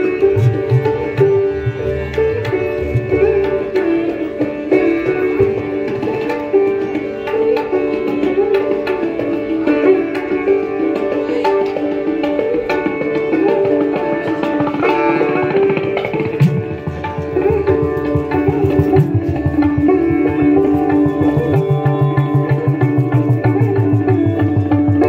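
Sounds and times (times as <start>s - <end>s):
plucked sitar melody: 0.0s - 25.0s
tabla strokes: 0.0s - 25.0s.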